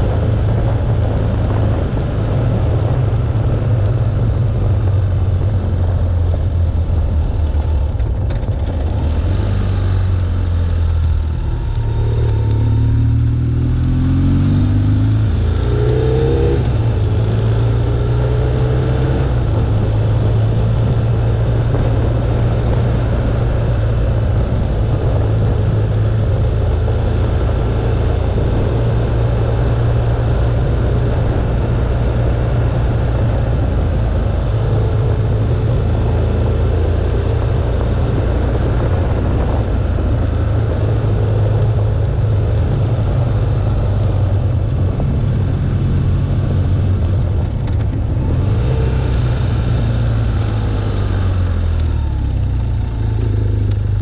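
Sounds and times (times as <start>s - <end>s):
motorcycle engine: 0.0s - 54.0s
wind rumble on microphone: 0.0s - 54.0s.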